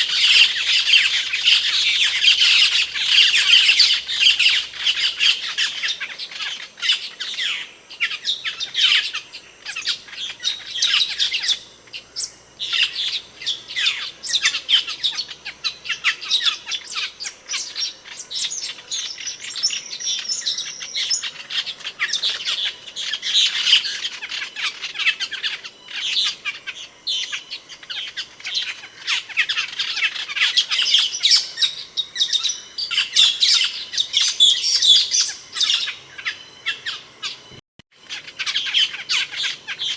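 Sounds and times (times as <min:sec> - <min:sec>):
starling chirps and squawks: 0:00.0 - 0:39.9.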